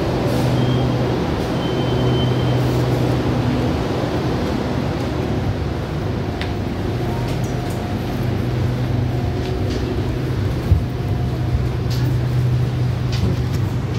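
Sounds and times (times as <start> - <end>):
train car hum: 0.0 - 13.9.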